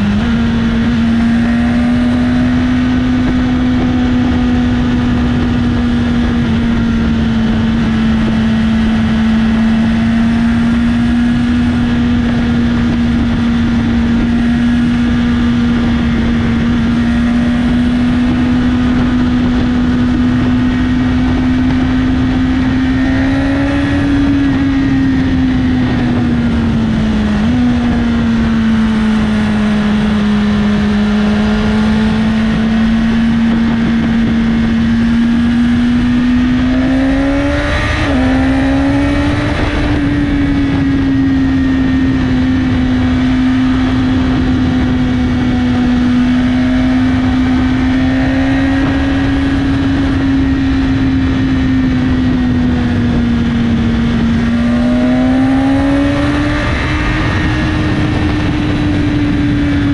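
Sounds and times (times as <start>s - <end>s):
motorcycle engine cruising: 0.0s - 59.9s
wind rushing: 0.0s - 59.9s.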